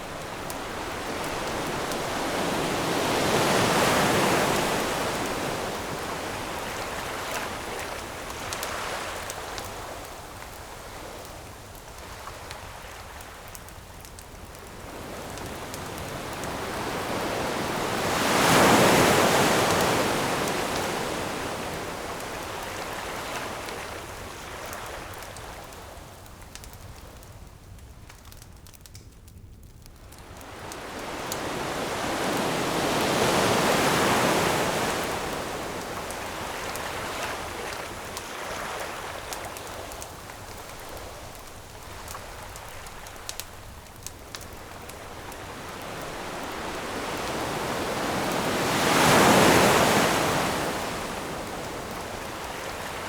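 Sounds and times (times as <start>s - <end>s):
ocean waves surging on shore: 0.0s - 10.3s, 14.7s - 25.1s, 30.2s - 53.0s
faint campfire crackles: 0.0s - 53.0s.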